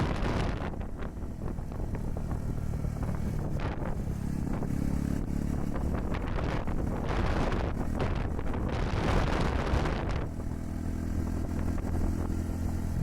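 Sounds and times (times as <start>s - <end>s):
motorcycle engine revving: 0.0s - 13.0s
wind buffeting microphone: 0.0s - 13.0s.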